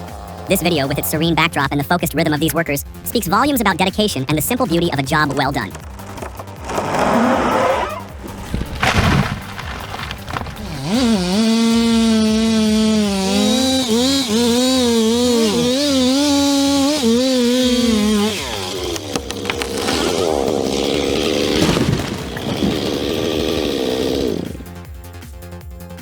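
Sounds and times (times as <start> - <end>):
chainsaw cutting at high revs: 0.0 - 1.0, 4.7 - 25.2.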